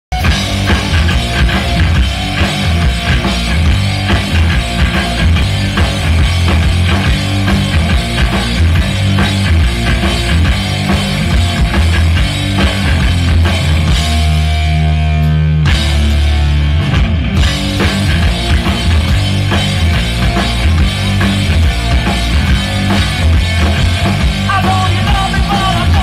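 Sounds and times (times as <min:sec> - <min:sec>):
drum kit hits: 0:00.1 - 0:26.0
heavy bass line: 0:00.1 - 0:26.0
live rock band playing: 0:00.1 - 0:26.0.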